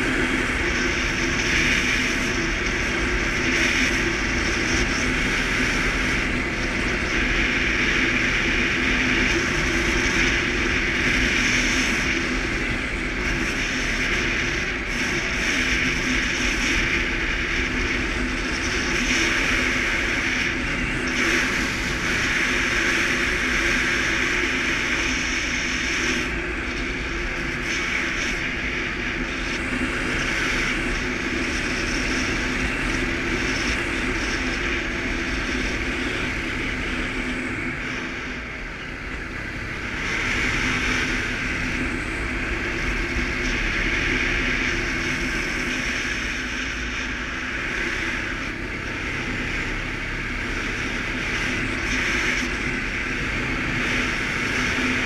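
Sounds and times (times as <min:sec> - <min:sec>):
atv engine running: 0:00.0 - 0:55.0
wind noise: 0:00.0 - 0:55.0.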